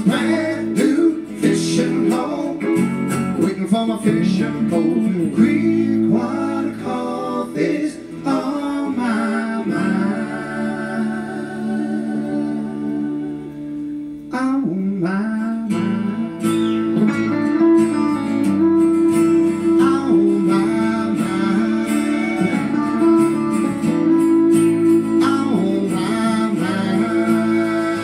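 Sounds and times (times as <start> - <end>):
picked guitar lead bending: 0.0 - 14.3, 15.7 - 28.0
guitar strumming: 0.0 - 14.5, 15.5 - 28.0
live country band playing: 0.0 - 28.0.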